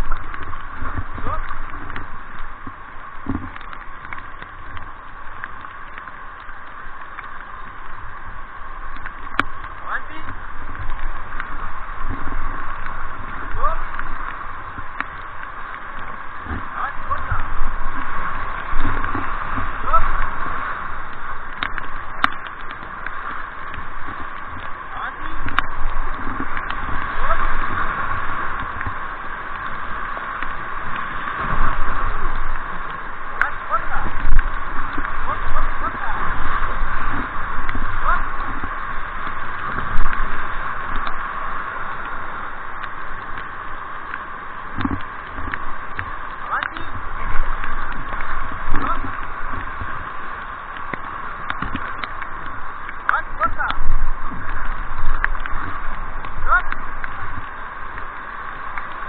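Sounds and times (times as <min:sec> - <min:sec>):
river rushing over rapids: 0:00.0 - 0:59.0.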